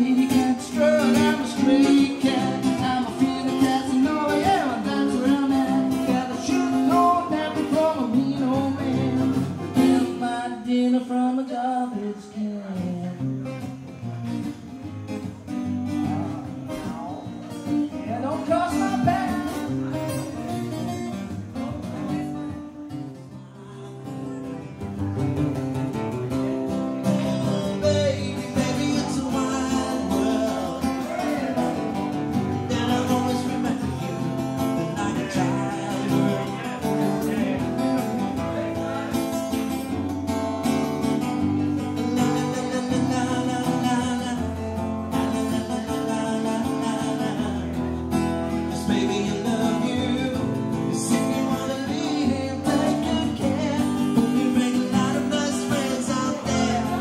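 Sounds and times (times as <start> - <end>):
acoustic guitars playing: 0.0 - 57.0.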